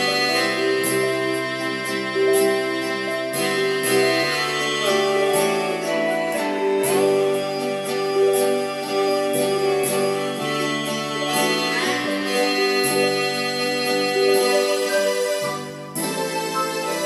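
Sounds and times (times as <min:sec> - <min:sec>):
keyboard bass notes: 0:00.0 - 0:17.0
keyboard bowed string melody: 0:00.0 - 0:17.0.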